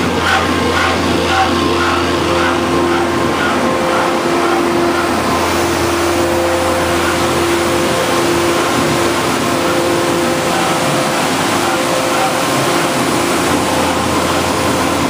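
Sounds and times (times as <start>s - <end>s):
truck engine and blower drone: 0.0s - 15.0s
whining tones: 0.0s - 15.0s.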